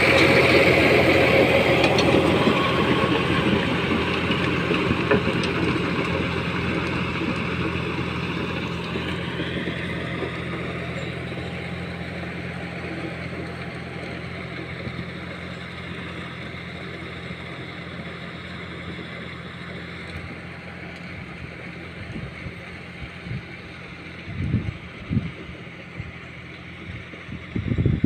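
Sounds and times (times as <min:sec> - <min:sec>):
rotary tiller in dry soil: 0:00.0 - 0:28.0
tractor diesel engine running: 0:00.0 - 0:28.0.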